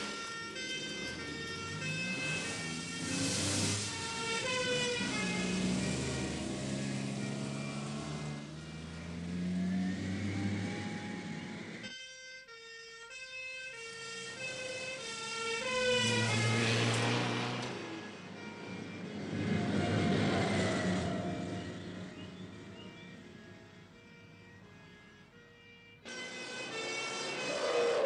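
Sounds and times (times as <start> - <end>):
two-tone ambulance siren: 0.0 - 28.0.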